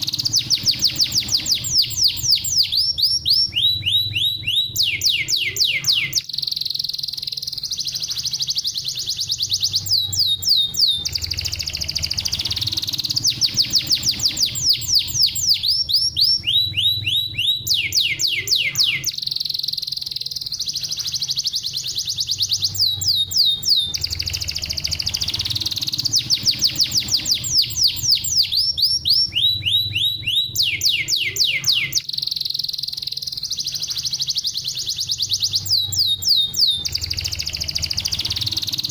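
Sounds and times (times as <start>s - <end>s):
canary singing: 0.0s - 38.9s
low steady hum: 0.0s - 38.9s.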